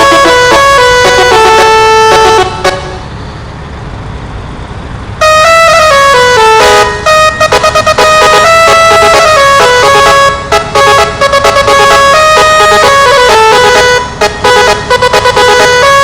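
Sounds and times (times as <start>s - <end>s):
multi-tone truck horn melody: 0.0s - 3.2s, 5.2s - 16.0s.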